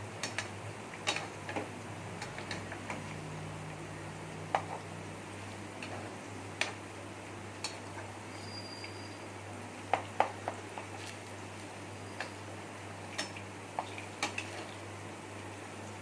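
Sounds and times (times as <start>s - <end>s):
chicken sizzling in hot oil: 0.0s - 15.8s.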